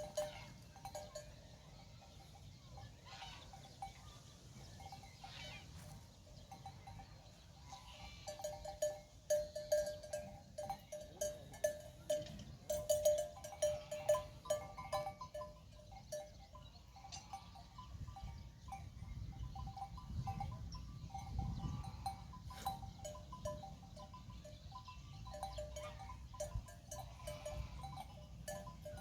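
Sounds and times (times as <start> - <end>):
livestock bells clinking: 0.0 - 29.0.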